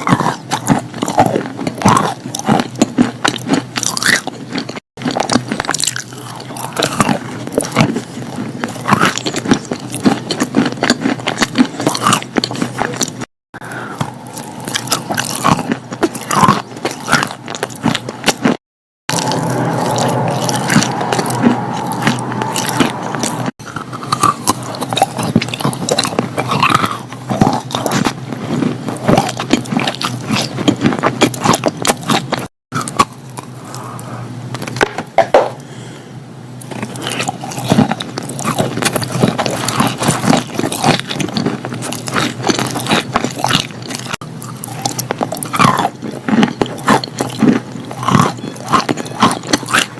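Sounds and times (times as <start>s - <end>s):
chalk biting and crunching: 0.0s - 13.3s, 14.0s - 33.8s, 36.6s - 49.9s.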